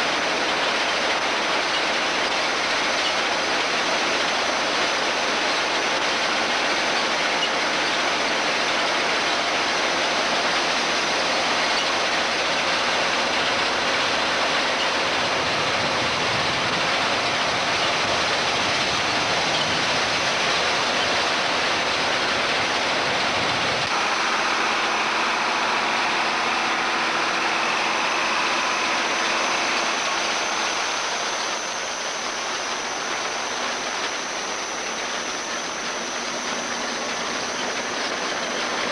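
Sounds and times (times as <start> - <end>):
tractor and harvester running: 0.0 - 38.9.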